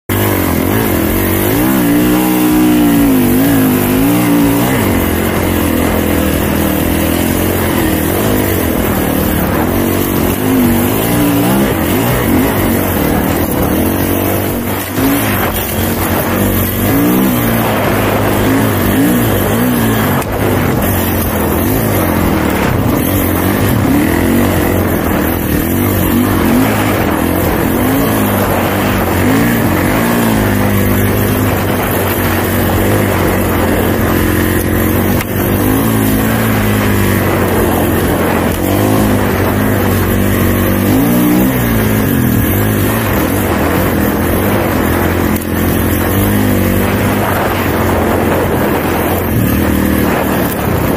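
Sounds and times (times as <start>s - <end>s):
snowbike engine revving: 0.0s - 50.9s.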